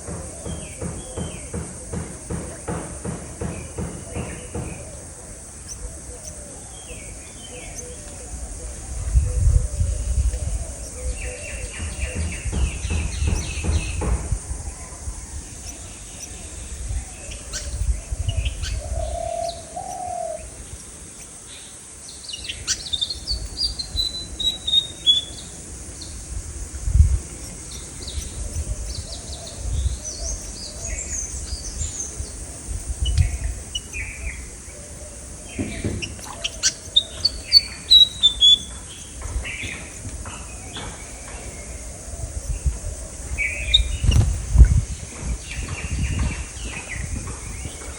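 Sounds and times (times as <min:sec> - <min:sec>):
birds chirping and calling: 0:00.0 - 0:47.9.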